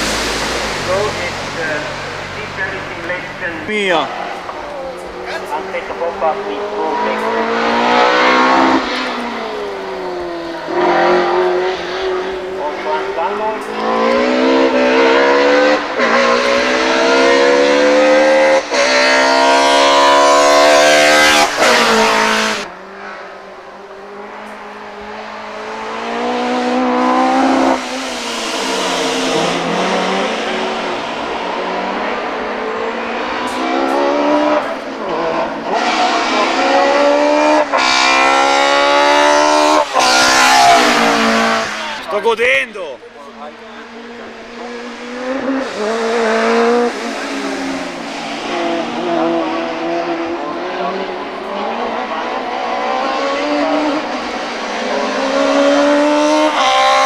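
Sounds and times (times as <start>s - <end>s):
race car engine accelerating: 0.0s - 42.4s, 43.1s - 57.0s.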